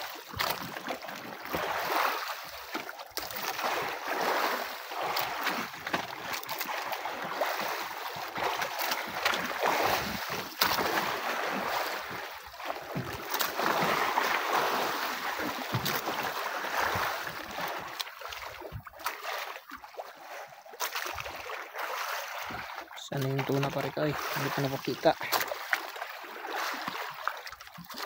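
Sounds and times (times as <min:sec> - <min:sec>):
waves splashing against boat hull: 0:00.0 - 0:28.0.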